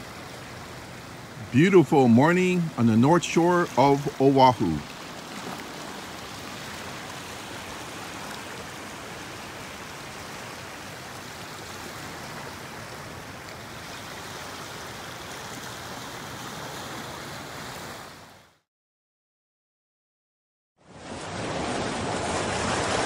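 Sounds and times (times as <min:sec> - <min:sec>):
small waves washing over rocks: 0:00.0 - 0:18.0, 0:21.0 - 0:23.0.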